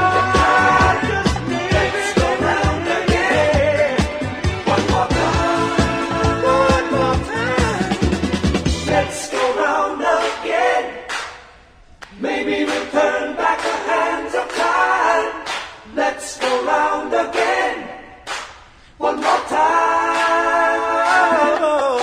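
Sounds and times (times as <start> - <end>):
voices singing in harmony: 0.0 - 11.5, 12.1 - 18.3, 18.9 - 22.0.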